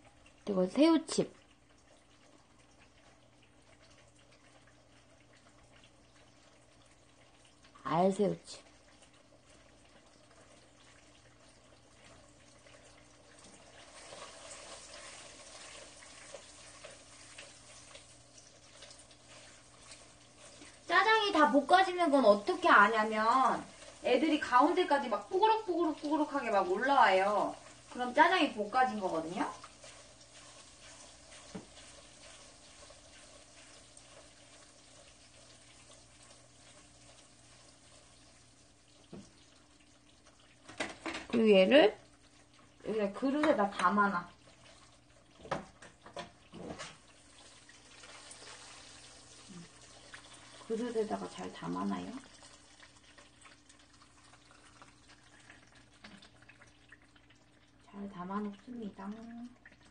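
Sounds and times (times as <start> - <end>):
low steady hum: 0.0 - 59.9
sauce sizzling and bubbling in pan: 0.0 - 59.9.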